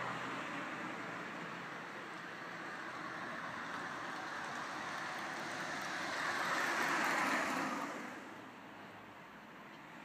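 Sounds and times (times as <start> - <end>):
car passing close by: 0.0 - 8.5.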